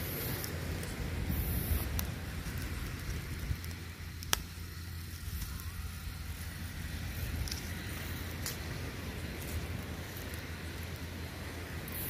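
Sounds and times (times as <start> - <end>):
fire crackling: 0.0 - 12.0
sharp pops from fire: 0.0 - 12.0.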